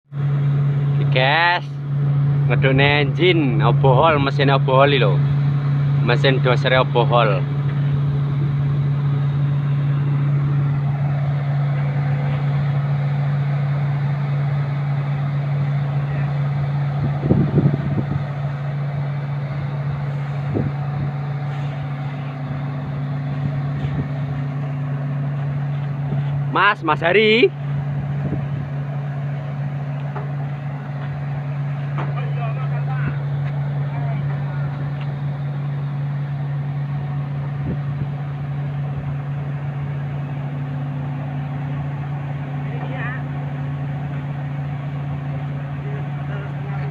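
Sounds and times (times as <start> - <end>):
diesel engine running: 0.1 - 46.9
higher steady tone: 0.1 - 46.9.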